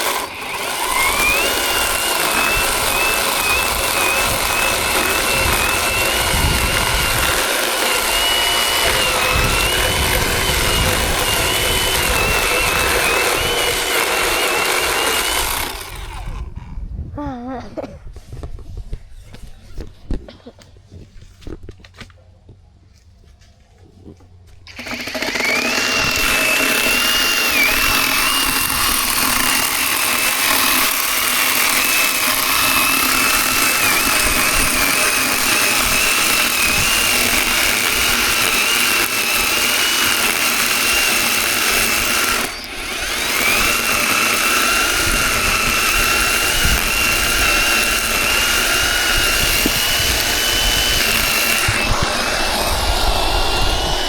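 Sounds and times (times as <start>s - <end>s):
electric chainsaw whining: 0.0s - 16.7s, 24.6s - 54.0s.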